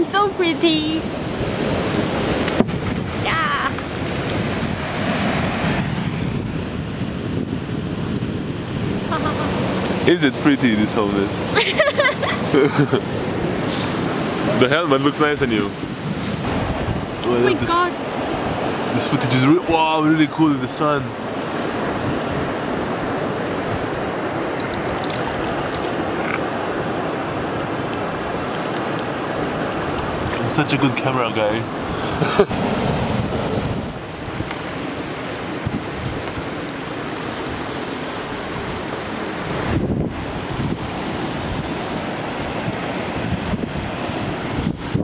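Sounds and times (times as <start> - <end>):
wind buffeting microphone: 0.0 - 45.0
river water rushing over rocks: 8.9 - 45.0.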